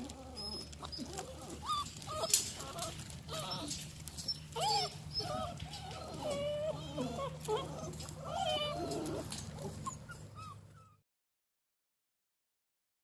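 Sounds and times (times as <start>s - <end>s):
puppies whining and whimpering: 0.0s - 11.0s.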